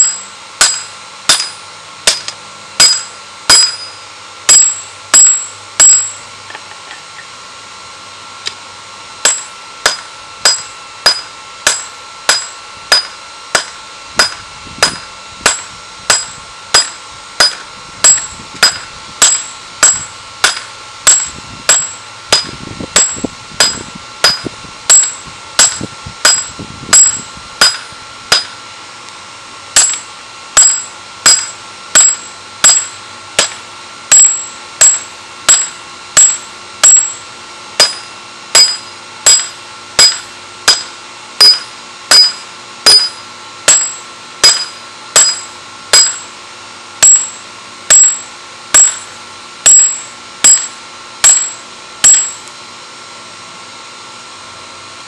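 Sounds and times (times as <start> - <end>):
hammer striking steel on anvil: 0.0 - 7.3, 9.2 - 28.6, 29.8 - 46.3, 47.0 - 52.5.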